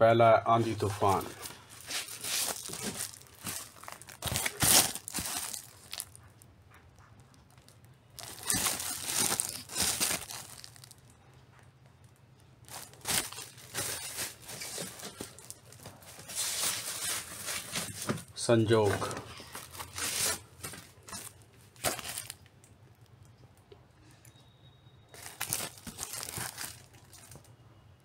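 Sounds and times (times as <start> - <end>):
plastic sleeves crinkling: 0.6 - 6.4, 7.2 - 11.2, 12.1 - 23.4, 25.1 - 27.5.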